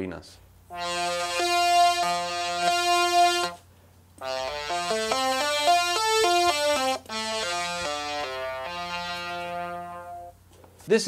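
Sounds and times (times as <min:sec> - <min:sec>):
synthesizer ocarina notes: 0:00.7 - 0:03.6, 0:04.2 - 0:10.3.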